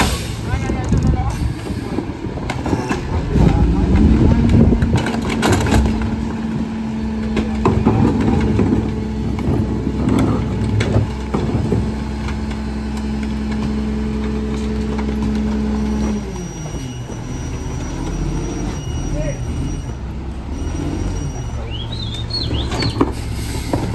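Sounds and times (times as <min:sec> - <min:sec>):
garbage truck diesel engine humming: 0:00.0 - 0:23.9
hydraulic packer running: 0:00.1 - 0:23.9.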